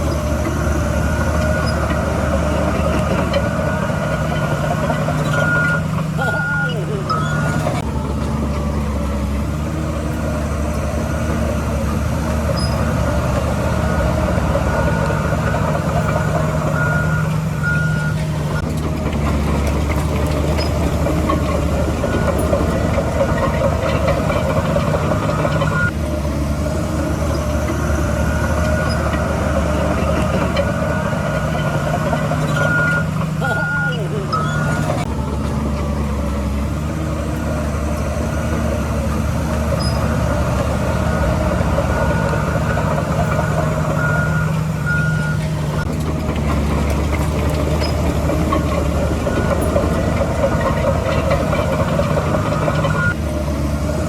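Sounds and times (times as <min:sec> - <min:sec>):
reversing alarm beeping: 0:00.0 - 0:07.9, 0:10.5 - 0:18.7, 0:19.5 - 0:26.0, 0:27.2 - 0:35.1, 0:37.6 - 0:45.9, 0:46.8 - 0:53.2
diesel earthmoving machinery running: 0:00.0 - 0:54.0.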